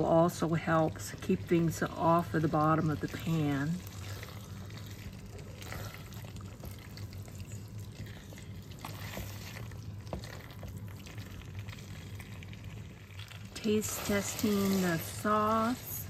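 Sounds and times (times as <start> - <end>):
spatula stirring thick sauce: 0.0 - 16.0
steady low hum: 0.0 - 16.0.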